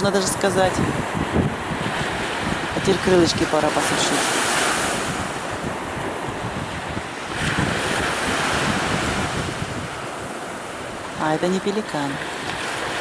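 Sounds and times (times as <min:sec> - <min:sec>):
sea surf washing in: 0:00.0 - 0:13.0
wind buffeting microphone: 0:00.0 - 0:13.0.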